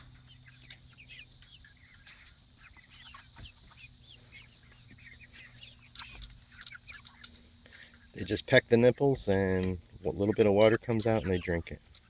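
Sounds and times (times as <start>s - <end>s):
chickens chirping and clucking: 0.0s - 12.0s.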